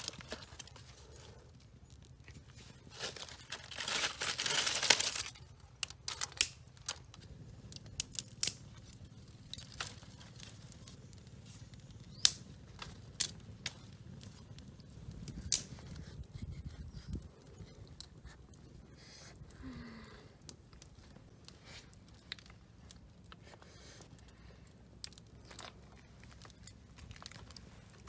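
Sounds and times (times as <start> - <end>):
fire crackling and snapping: 0.0 - 28.0
rustling of twigs and leaves: 0.0 - 28.0.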